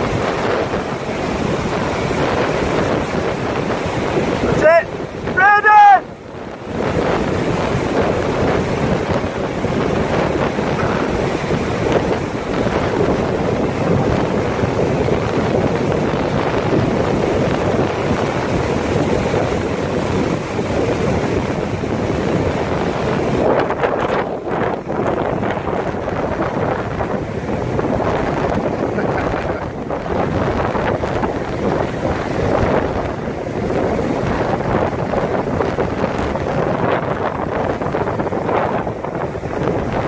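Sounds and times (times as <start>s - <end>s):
surf breaking: 0.0s - 40.0s
wind buffeting microphone: 0.0s - 40.0s.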